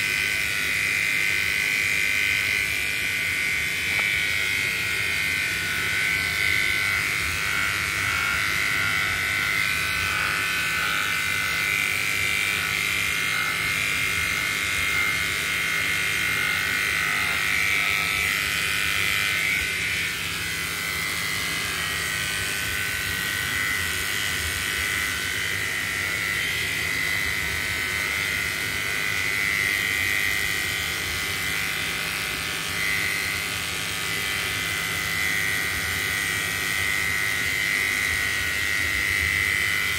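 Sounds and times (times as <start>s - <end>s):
electric clippers whining: 0.0s - 39.9s.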